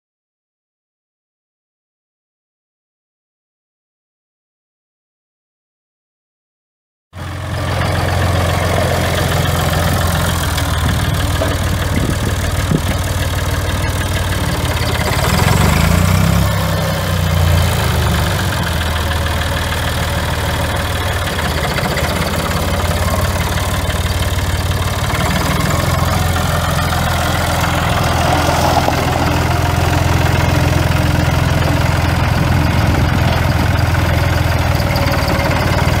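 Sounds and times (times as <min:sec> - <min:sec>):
tractor diesel engine idling: 0:07.2 - 0:36.0.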